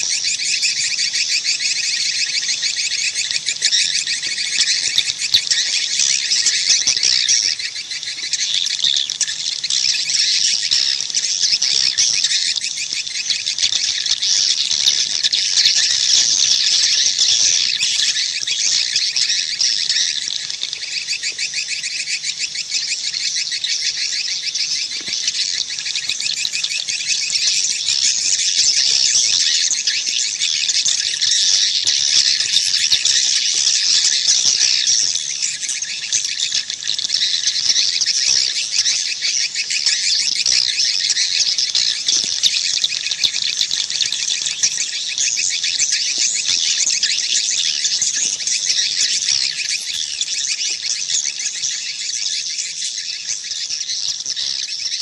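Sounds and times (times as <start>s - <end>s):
swiftlets twittering: 0.0s - 53.8s.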